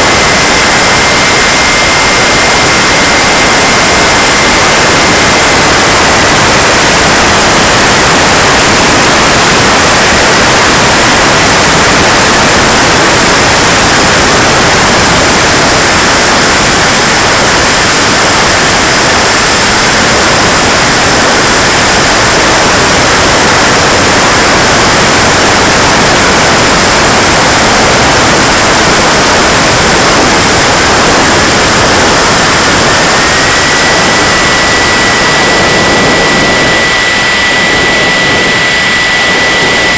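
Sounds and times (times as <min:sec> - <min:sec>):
jet turbine running: 0:00.0 - 0:39.9.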